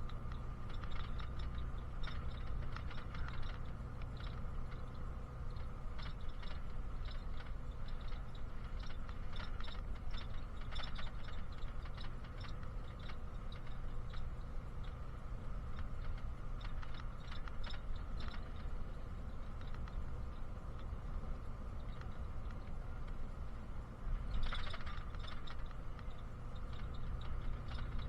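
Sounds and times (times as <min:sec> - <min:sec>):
bus engine and road drone: 0:00.0 - 0:28.0.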